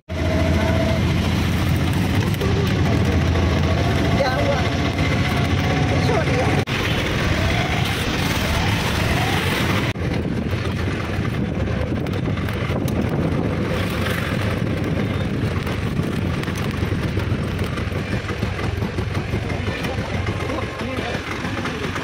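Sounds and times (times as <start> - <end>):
road and traffic noise: 0.0 - 22.0
small engine running: 0.1 - 22.0.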